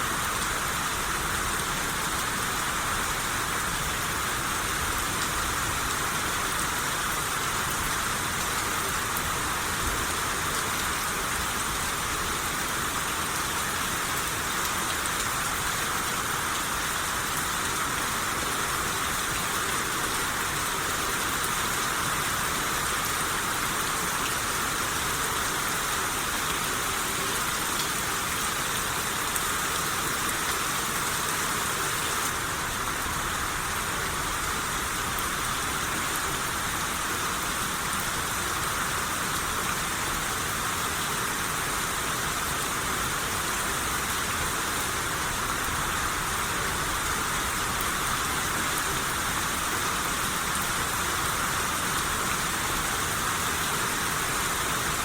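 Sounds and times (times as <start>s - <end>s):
rain shower hissing: 0.0s - 55.0s.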